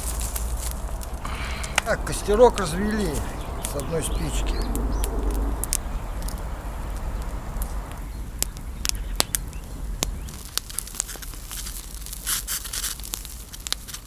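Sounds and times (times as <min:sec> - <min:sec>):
fire hissing: 0:00.0 - 0:13.8
campfire crackling: 0:00.0 - 0:14.0
fire popping: 0:00.0 - 0:14.0.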